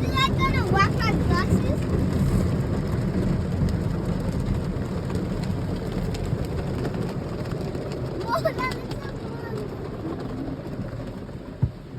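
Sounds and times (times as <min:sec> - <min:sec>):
car wash water spraying on car: 0:00.0 - 0:11.9.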